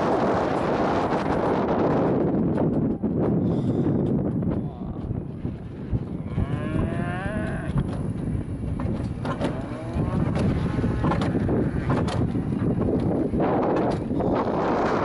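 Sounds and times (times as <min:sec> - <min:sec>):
coaster sled rumbling on track: 0:00.0 - 0:15.0
wind buffeting microphone: 0:00.0 - 0:15.0.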